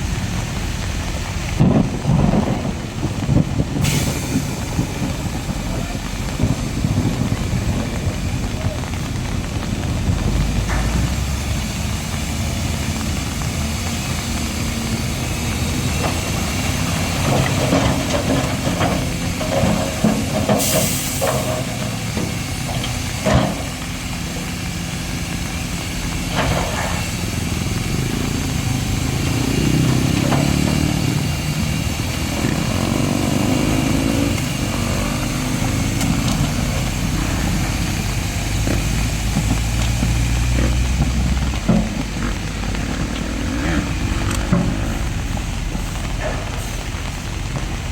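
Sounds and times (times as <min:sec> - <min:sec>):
diesel machinery engine running: 0:00.0 - 0:47.9.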